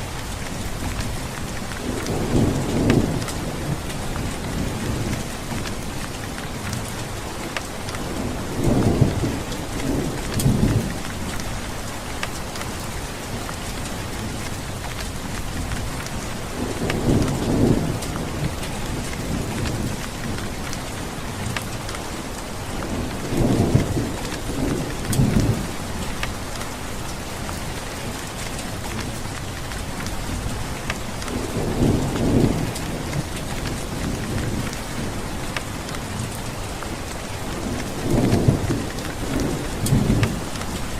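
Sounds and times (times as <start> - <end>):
heavy rain falling: 0.0 - 40.9
low rumbles of thunder: 0.1 - 11.9, 12.8 - 40.9.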